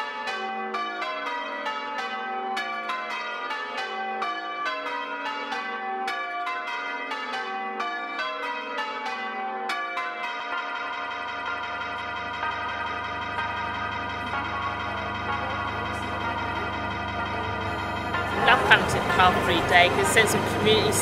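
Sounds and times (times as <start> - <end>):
church bells change ringing: 0.0 - 21.0.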